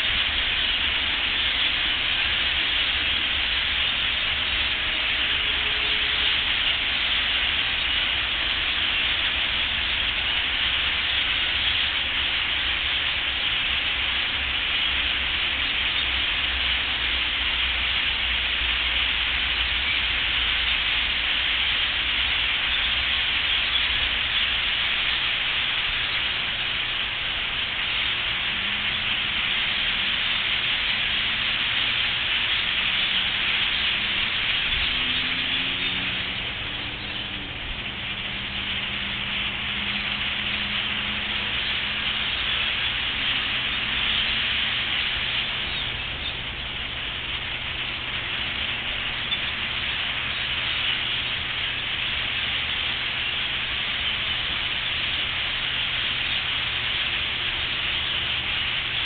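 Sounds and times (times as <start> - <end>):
flock of birds calling: 0.0 - 59.0.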